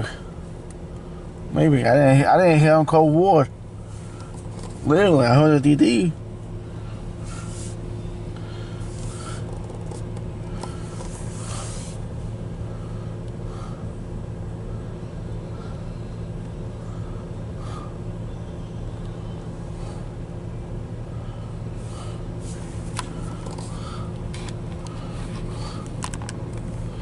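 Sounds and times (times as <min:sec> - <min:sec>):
vehicle low hum: 0:00.0 - 0:27.0.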